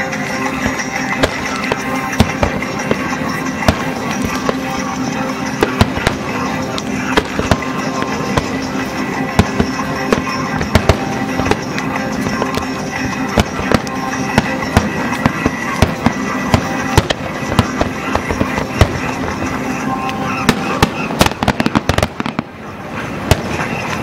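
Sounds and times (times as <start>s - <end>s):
fireworks bangs: 0.0s - 24.0s
rapid fireworks crackling: 0.0s - 24.0s.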